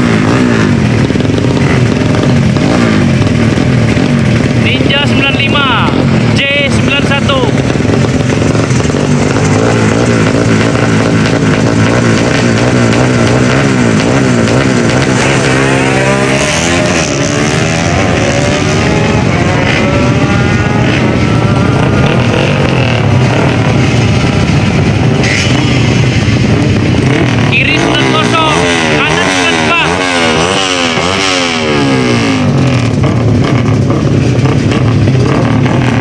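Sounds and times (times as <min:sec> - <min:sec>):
drag bike engine revving: 0:00.0 - 0:36.0.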